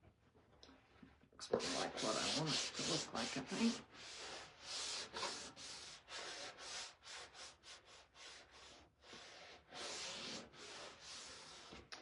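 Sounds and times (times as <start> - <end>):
hand rubbing painted surface: 1.4 - 11.9.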